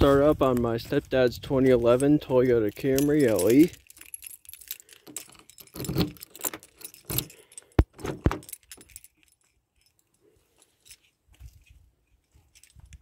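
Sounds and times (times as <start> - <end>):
keys jangling on key ring: 2.0 - 13.0.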